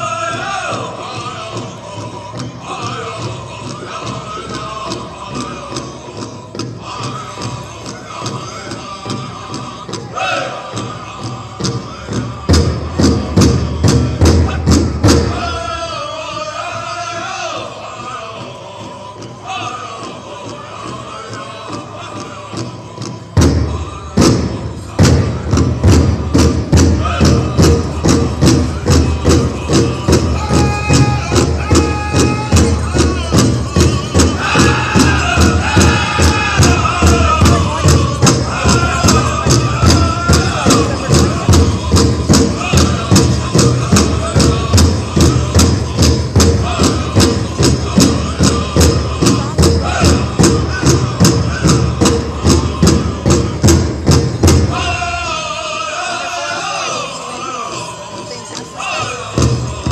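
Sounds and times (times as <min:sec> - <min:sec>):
big drum beating: 0:00.0 - 0:16.1, 0:16.7 - 0:55.6, 0:59.0 - 0:59.9
voices singing high: 0:00.0 - 0:25.5, 0:26.3 - 0:54.0, 0:54.6 - 0:59.9.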